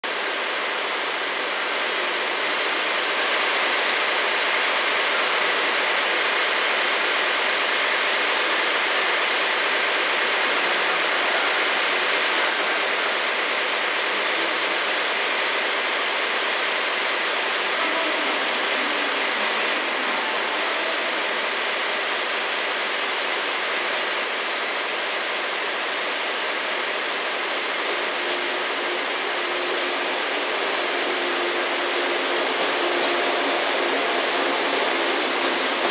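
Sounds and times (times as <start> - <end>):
train rolling into station: 0.0 - 35.9.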